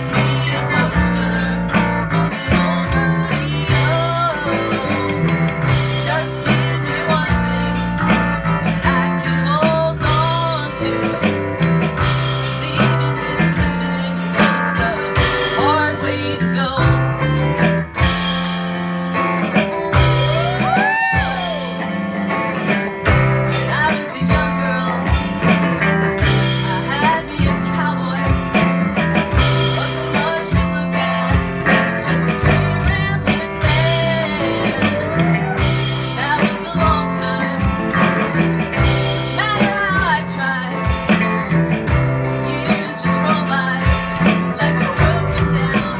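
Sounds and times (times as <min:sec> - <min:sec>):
bass line: 0:00.0 - 0:45.9
drums: 0:00.0 - 0:45.9
guitar with bent sliding notes: 0:00.0 - 0:45.9.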